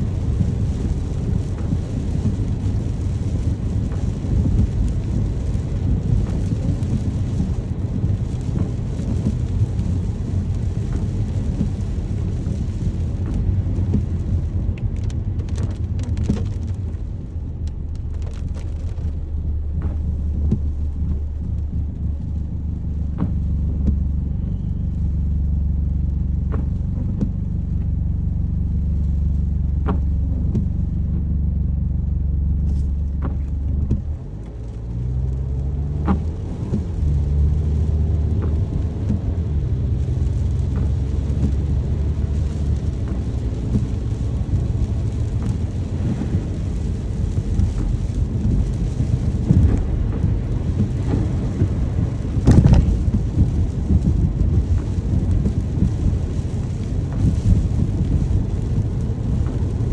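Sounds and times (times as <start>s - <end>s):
low rumble: 0.0s - 59.9s
rain falling: 0.0s - 59.9s.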